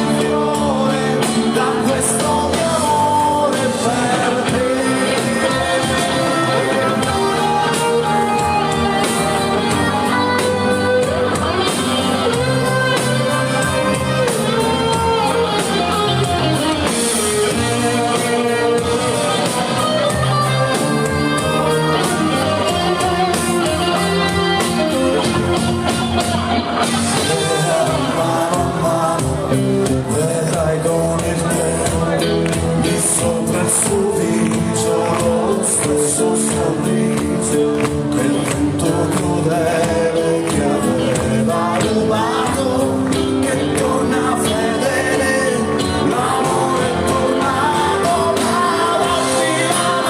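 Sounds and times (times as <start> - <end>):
live band playing: 0.0 - 50.0
person singing: 0.0 - 50.0.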